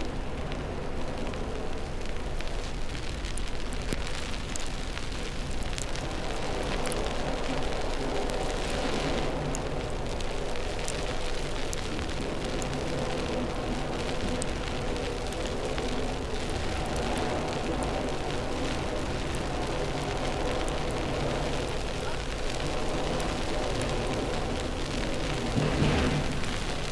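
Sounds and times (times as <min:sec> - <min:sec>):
light crackle: 0:00.0 - 0:26.9
traffic rumble: 0:00.0 - 0:26.9.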